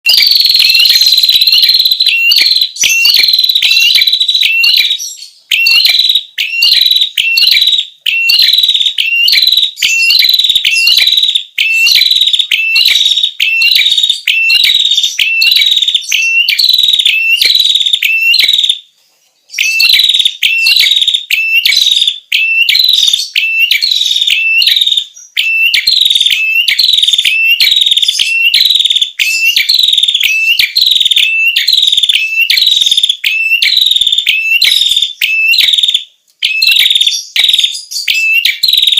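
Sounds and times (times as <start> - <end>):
bird shrill whistled song: 0.0 - 18.7, 19.5 - 38.9.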